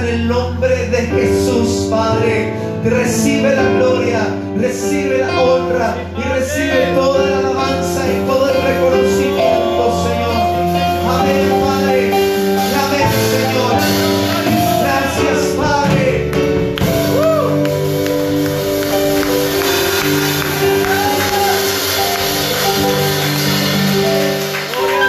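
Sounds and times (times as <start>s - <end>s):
worship band playing slow song: 0.0s - 25.0s.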